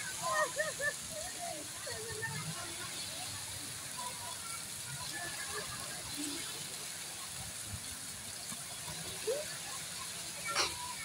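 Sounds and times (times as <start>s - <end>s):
faint voices: 0.0s - 11.0s
water jets splashing into pond: 0.0s - 11.0s.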